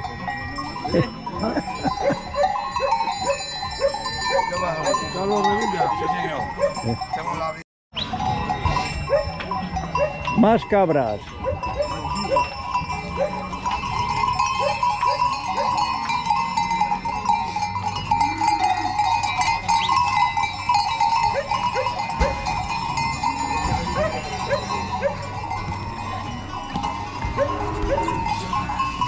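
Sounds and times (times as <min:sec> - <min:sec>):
goat bells clanking: 0:00.0 - 0:29.0.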